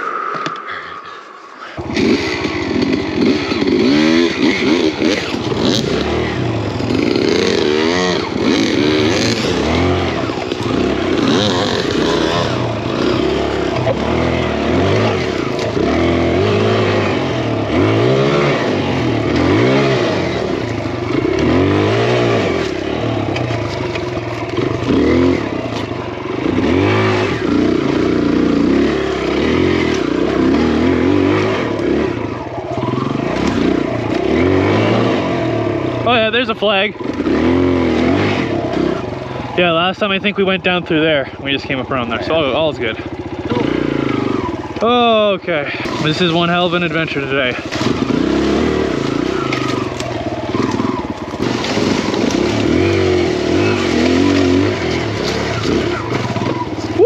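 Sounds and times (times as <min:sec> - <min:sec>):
dirt bike engine revving: 0:01.6 - 0:57.0.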